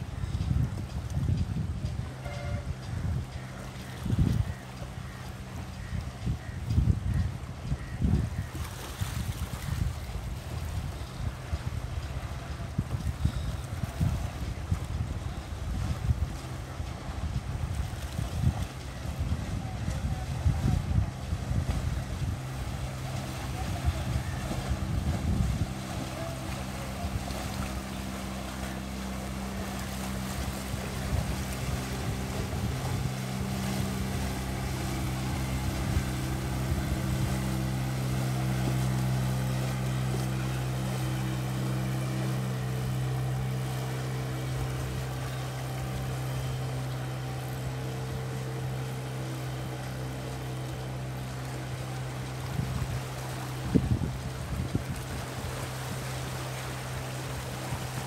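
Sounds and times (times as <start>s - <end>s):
boat motor running: 0.0s - 58.0s
wind on microphone: 0.0s - 58.0s.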